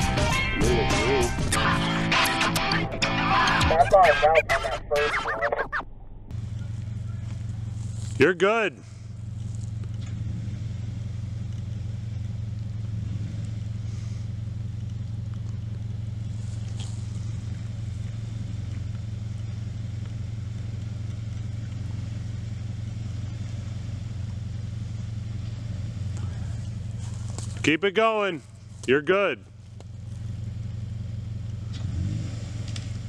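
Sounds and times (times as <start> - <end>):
car engine running low revs: 0.0 - 3.8, 5.9 - 33.0.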